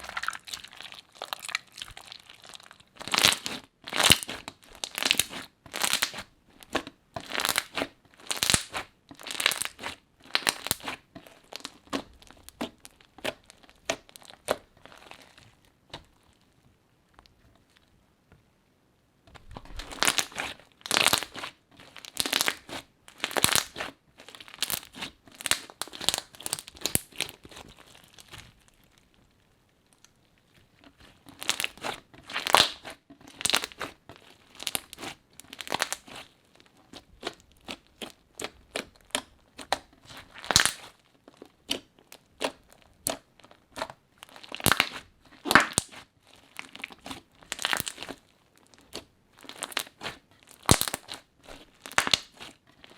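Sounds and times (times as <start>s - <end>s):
crunchy slime squeezed by hand: 0.0s - 15.5s, 19.5s - 29.0s, 30.9s - 41.0s, 41.6s - 52.9s.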